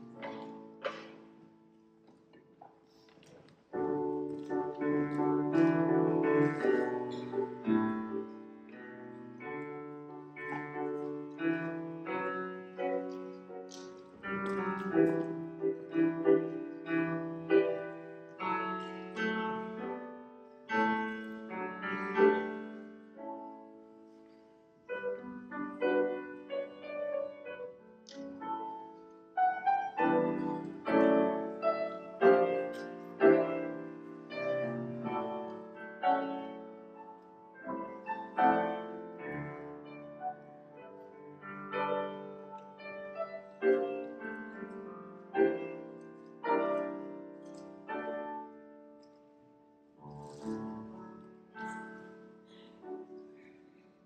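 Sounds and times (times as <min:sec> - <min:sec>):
slow solo piano piece: 0:00.0 - 0:54.0.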